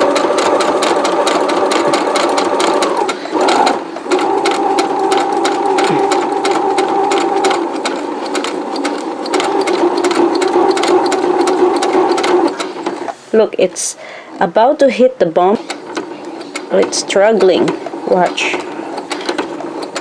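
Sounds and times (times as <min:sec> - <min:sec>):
sewing machine stitching: 0:00.0 - 0:13.2, 0:15.4 - 0:20.0.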